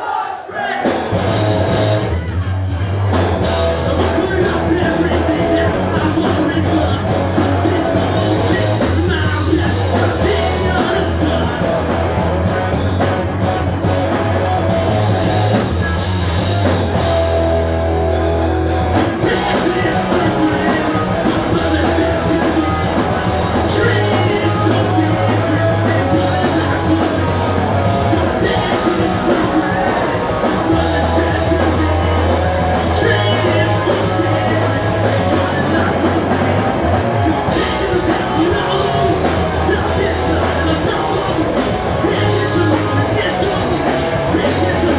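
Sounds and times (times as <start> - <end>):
punk rock band playing live: 0.7 - 44.9.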